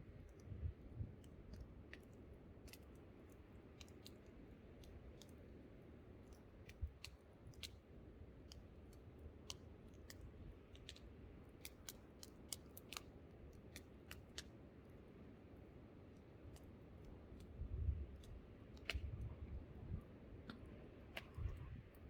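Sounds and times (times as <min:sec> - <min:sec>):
low rumble of wind: 0:00.0 - 0:22.0.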